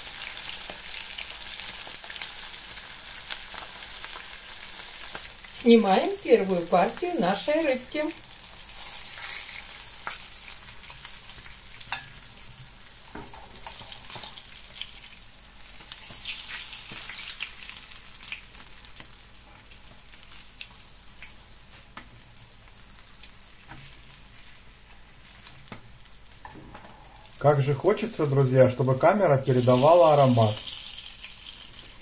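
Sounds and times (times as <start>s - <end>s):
fish sizzling in hot oil: 0.0s - 28.3s, 29.0s - 32.0s.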